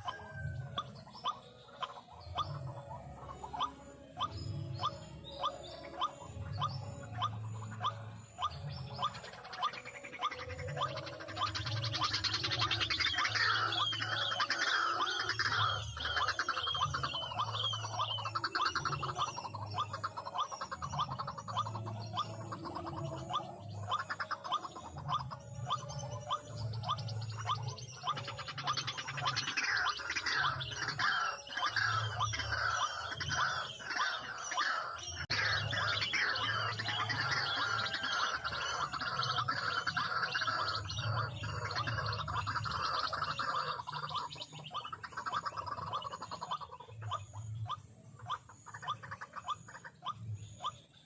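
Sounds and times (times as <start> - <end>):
bird upward-sweeping notes: 0.0 - 47.5
waterhen croaking calls: 0.0 - 51.0.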